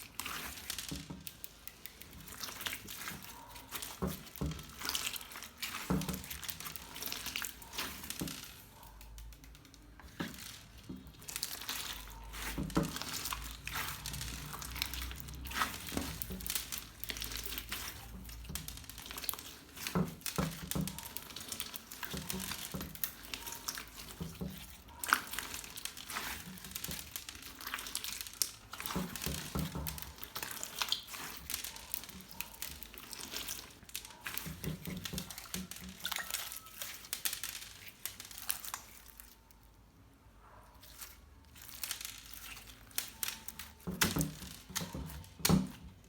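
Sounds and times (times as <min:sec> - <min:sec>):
slime squishing and crackling: 0:00.0 - 0:40.1, 0:40.7 - 0:46.0.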